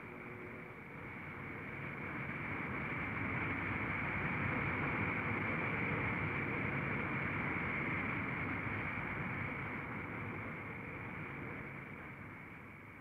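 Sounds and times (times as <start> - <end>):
propeller vehicle droning with whine: 0.0 - 13.0.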